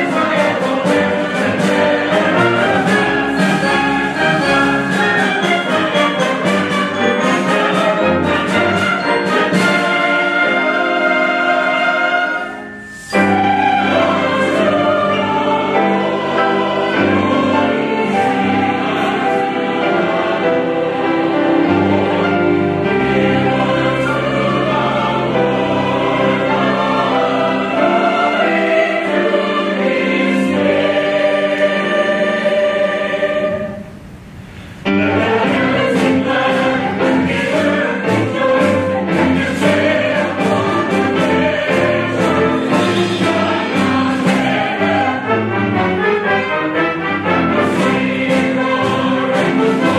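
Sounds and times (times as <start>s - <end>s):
choir singing with brass band: 0.0s - 49.9s.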